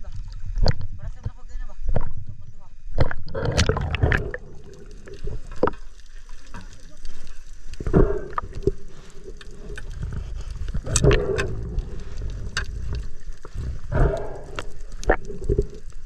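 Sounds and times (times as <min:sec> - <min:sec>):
muffled underwater swirling: 0:00.0 - 0:16.0.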